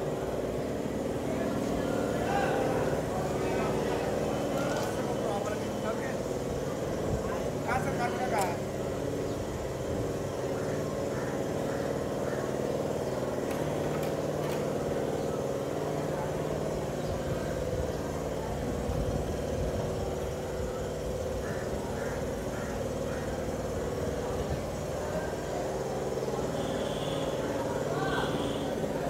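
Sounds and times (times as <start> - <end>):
faint voices: 0.0 - 29.0
motor droning: 0.0 - 29.0.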